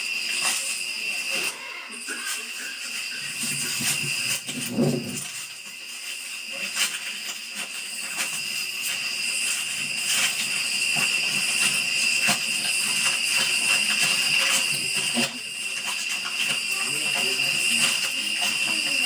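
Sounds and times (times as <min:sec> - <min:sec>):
hiss: 0:00.0 - 0:19.0
night insects chorus: 0:00.0 - 0:19.0.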